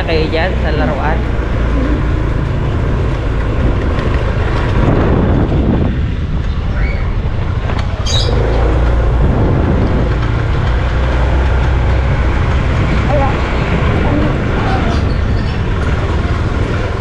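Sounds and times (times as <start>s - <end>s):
motorcycle engine running: 0.0s - 17.0s
wind rumbling on microphone: 0.0s - 17.0s.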